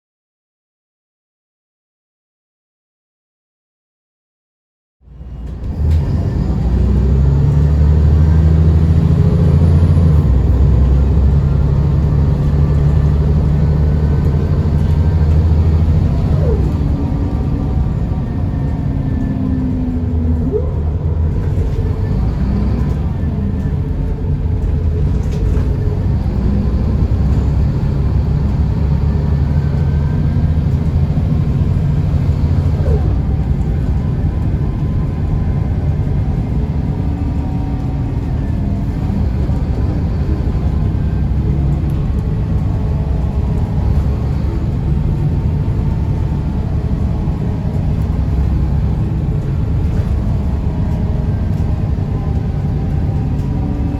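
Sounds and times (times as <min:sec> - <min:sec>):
bus diesel engine rumbling: 0:05.0 - 0:53.9.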